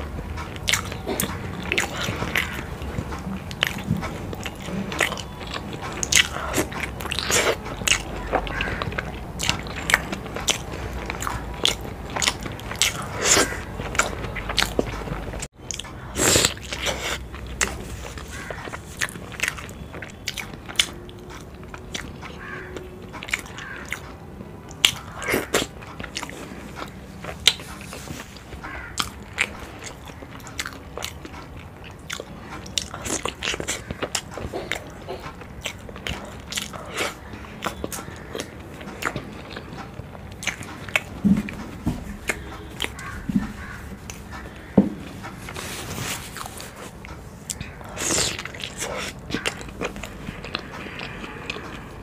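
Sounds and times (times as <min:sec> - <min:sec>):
close eating and chewing: 0:00.0 - 0:52.0.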